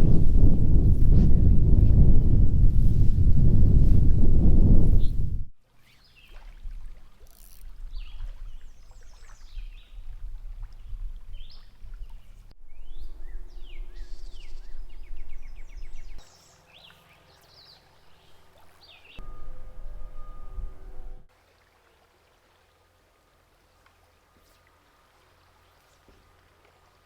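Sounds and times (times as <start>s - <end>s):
low rumble by a stream: 0.0s - 27.0s.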